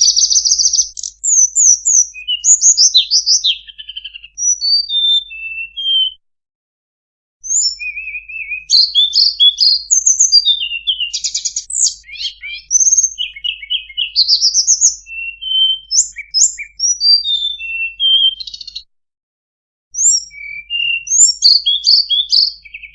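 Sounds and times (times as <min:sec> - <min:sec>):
flycatcher song: 0:00.0 - 0:06.2, 0:07.4 - 0:18.9, 0:20.0 - 0:22.9.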